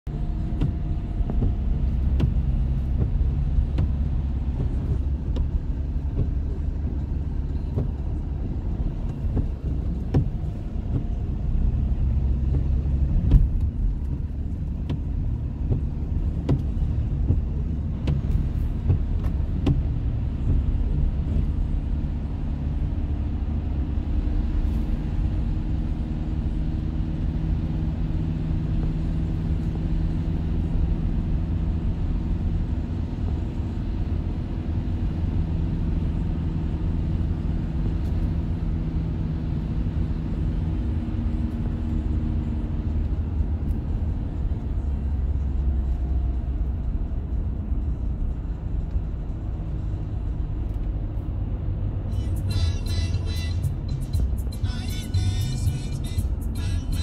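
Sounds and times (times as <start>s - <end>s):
engine and tyres rumbling: 0.0s - 57.0s.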